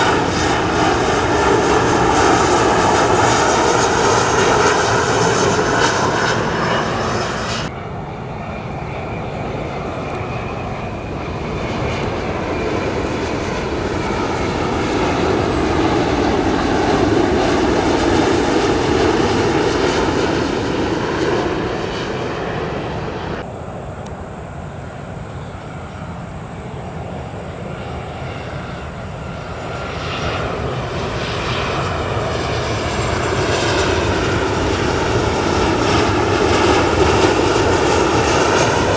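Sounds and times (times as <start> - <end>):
jet airliner passing close: 0.0 - 38.9.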